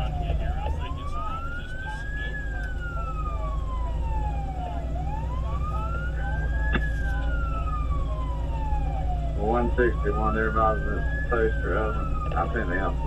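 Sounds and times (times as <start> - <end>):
fire engine siren wailing: 0.0 - 13.0
truck engine and tyres rumbling: 0.0 - 13.0.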